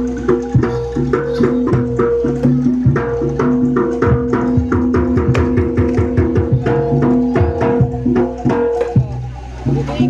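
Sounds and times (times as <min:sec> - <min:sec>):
fast hand-drum strokes: 0:00.0 - 0:10.0
ringing gamelan percussion tones: 0:00.0 - 0:10.0.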